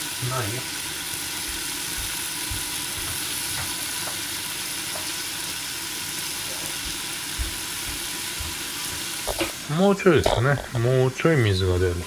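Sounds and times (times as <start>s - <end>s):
cabbage sizzling in oil: 0.0s - 12.0s.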